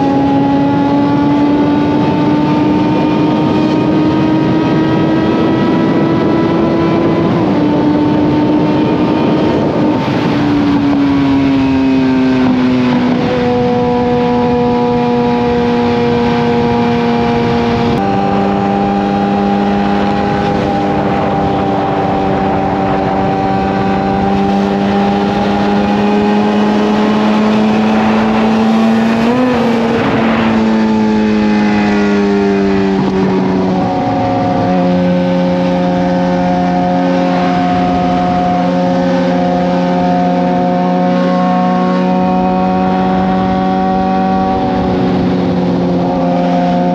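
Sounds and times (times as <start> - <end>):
motorcycle engine at highway speed: 0.0 - 46.9
wind noise on microphone: 0.0 - 46.9.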